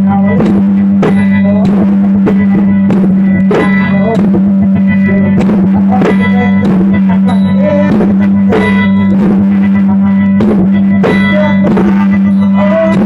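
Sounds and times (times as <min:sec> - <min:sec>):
loud drone: 0:00.0 - 0:13.0
plucked strings: 0:00.0 - 0:13.0
steady drumbeat: 0:00.0 - 0:13.0.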